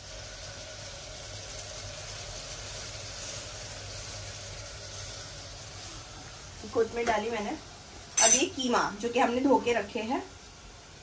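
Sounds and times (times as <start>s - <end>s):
onion and tomato sizzling in oil: 0.0s - 11.0s.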